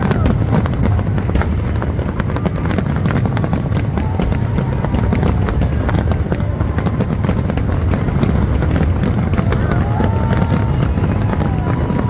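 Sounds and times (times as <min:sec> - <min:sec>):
fireworks booming: 0:00.0 - 0:12.0
fireworks cracking and crackling: 0:00.0 - 0:12.0.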